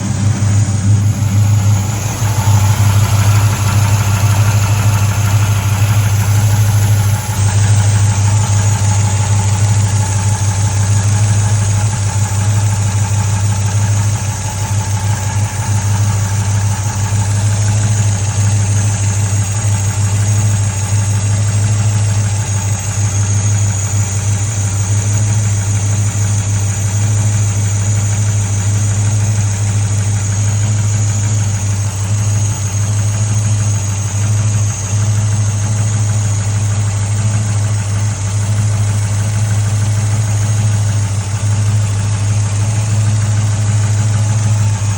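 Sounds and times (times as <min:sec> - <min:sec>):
car engine idling with lifter noise: 0:00.0 - 0:44.9.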